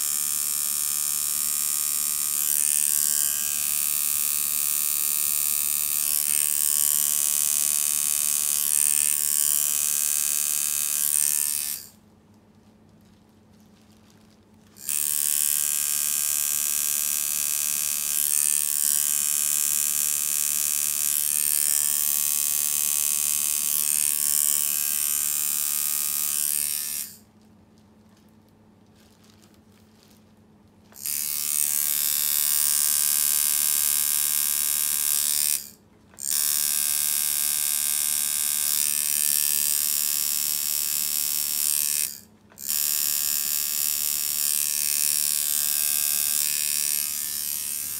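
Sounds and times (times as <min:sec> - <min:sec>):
tattoo machine buzzing: 0:00.0 - 0:12.0, 0:14.8 - 0:27.2, 0:30.9 - 0:47.9.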